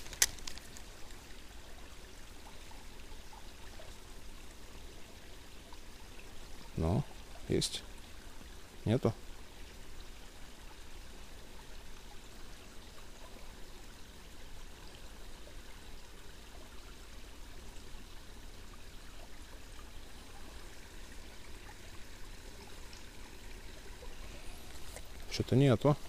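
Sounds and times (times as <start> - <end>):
water trickling and pouring: 0.0 - 26.0.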